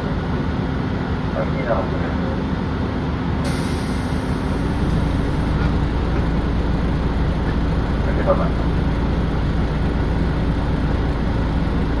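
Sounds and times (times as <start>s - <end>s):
bus diesel engine idling: 0.0s - 12.0s.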